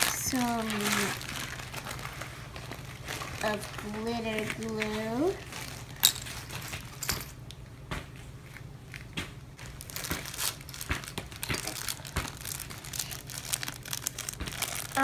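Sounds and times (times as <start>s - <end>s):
plastic bag crinkling: 0.0s - 7.4s, 8.5s - 15.0s.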